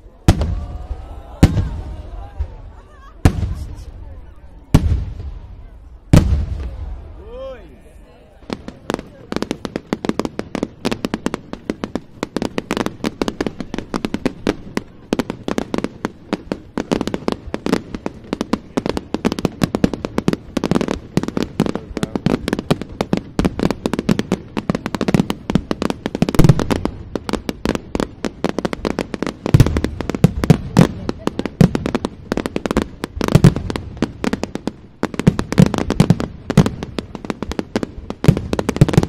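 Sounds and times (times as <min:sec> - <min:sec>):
deep fireworks booms: 0:00.0 - 0:39.0
fireworks bangs: 0:00.0 - 0:39.0.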